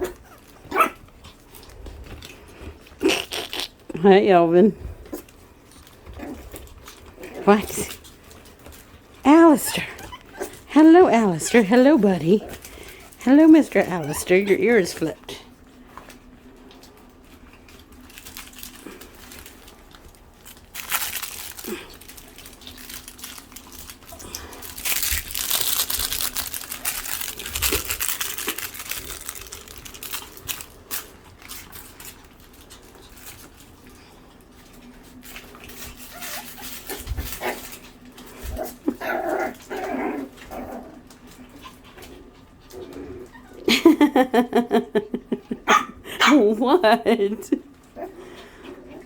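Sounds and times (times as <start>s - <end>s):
puppies rustling and scratching: 0.0s - 49.0s.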